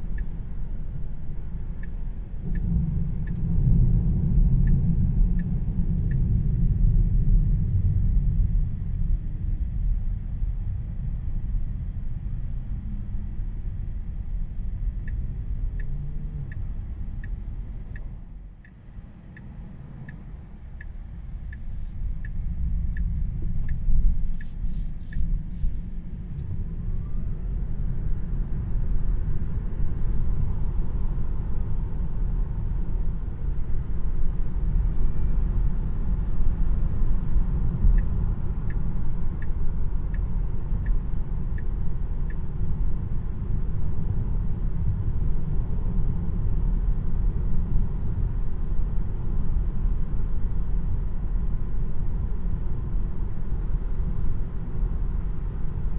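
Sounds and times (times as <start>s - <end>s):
turn signal ticking: 0.0s - 7.6s, 11.1s - 55.9s
road and tyre rumble: 0.0s - 55.9s.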